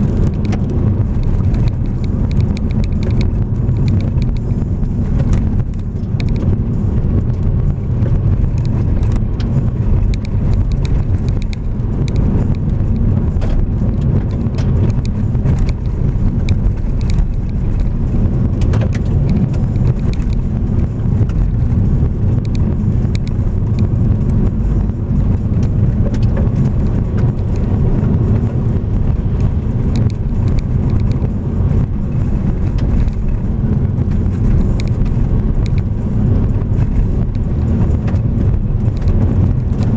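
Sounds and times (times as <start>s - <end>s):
low rumble of vehicle tyres: 0.0s - 39.9s
small clicks and knocks: 0.0s - 39.9s.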